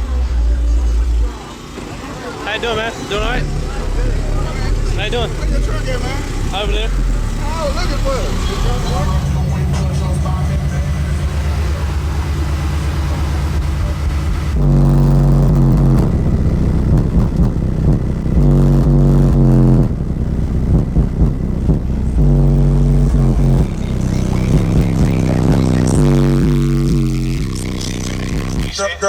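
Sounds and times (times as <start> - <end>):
loud bass-heavy music: 0.0 - 29.0.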